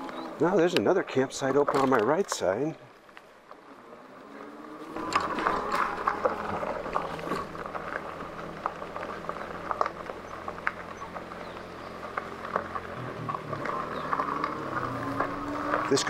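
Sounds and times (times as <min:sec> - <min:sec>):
tyres rolling on gravel: 0:00.0 - 0:16.0.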